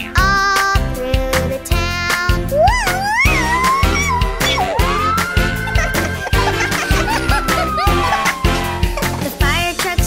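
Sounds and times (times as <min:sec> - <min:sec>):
upbeat children's instrumental music: 0:00.0 - 0:10.0.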